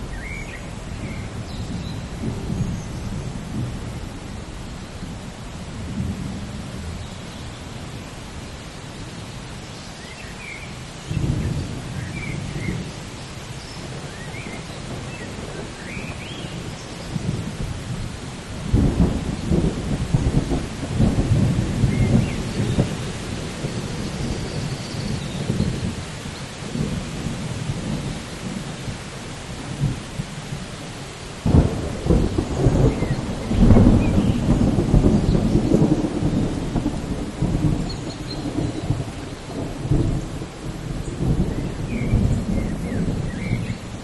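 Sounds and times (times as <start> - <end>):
thunder rumbling: 0.0 - 7.0, 11.0 - 13.1, 13.8 - 44.0
steady rain hissing: 0.0 - 44.0.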